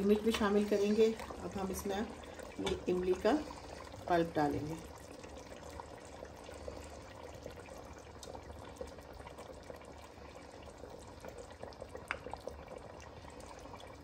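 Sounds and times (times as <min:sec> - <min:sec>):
liquid bubbling and popping: 0:00.0 - 0:14.0
low steady hum: 0:00.0 - 0:14.0.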